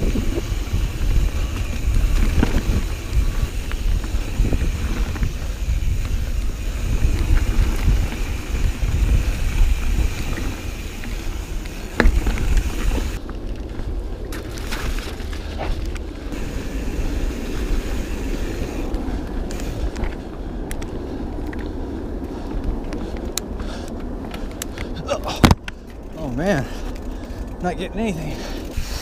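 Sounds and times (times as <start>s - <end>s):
bike rattles and clicks: 0.0s - 29.0s
bike tyres on dirt: 0.0s - 29.0s
wind rumble on microphone: 0.0s - 29.0s.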